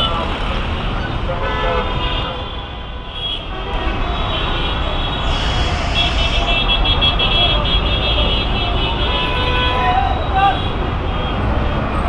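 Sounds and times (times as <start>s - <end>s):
traffic engine rumble: 0.0s - 12.0s
horns honking: 1.3s - 11.6s.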